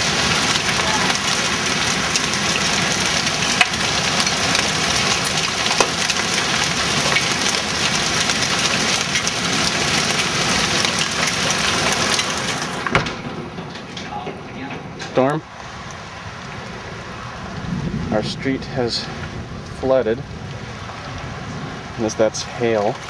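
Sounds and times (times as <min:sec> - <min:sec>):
hailstones pelting down: 0:00.0 - 0:23.0.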